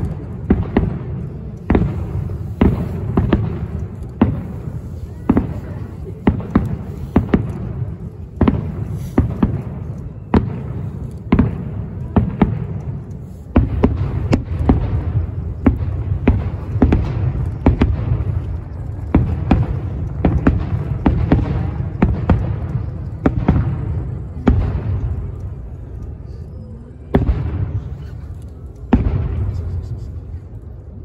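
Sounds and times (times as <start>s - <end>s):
fireworks bursting with sharp bangs: 0.0s - 31.0s
low rumble of echoing reports: 0.0s - 31.0s.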